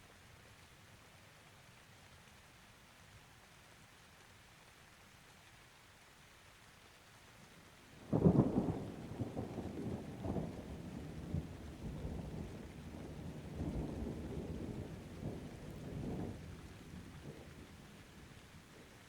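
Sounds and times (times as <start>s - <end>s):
rain: 0.0s - 19.0s.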